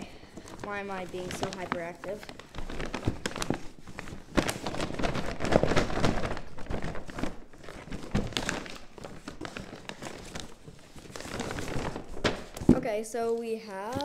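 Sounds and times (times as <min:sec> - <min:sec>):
wrapping paper rustling: 0:00.0 - 0:14.0.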